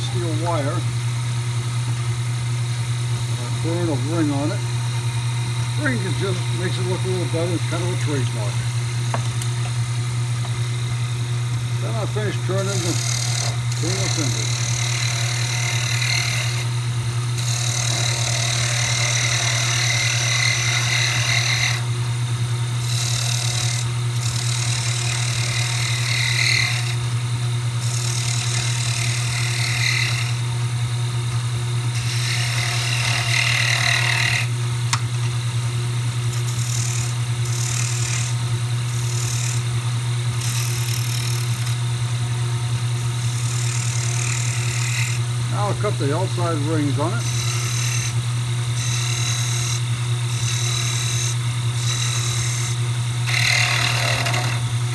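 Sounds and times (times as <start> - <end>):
chisel cutting spinning wood: 0.0 - 1.6, 2.2 - 9.8, 10.4 - 35.0, 36.0 - 54.9
lathe motor hum: 0.0 - 22.0, 22.8 - 27.1, 27.8 - 30.5, 31.2 - 35.0, 36.0 - 54.9.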